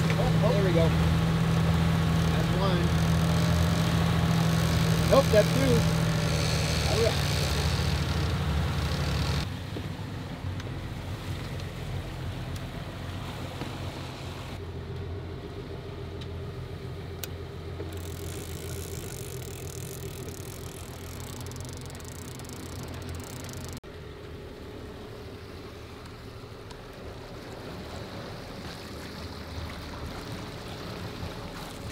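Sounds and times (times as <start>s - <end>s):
boat engine running: 0.0s - 31.9s.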